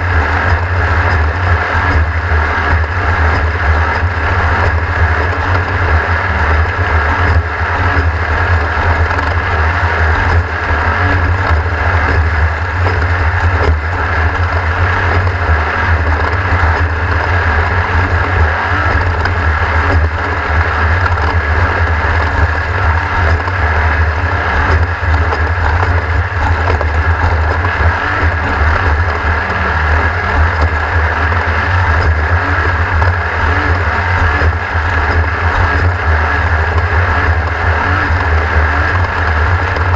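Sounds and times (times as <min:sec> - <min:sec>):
racing engine running hard: 0:00.0 - 0:39.9.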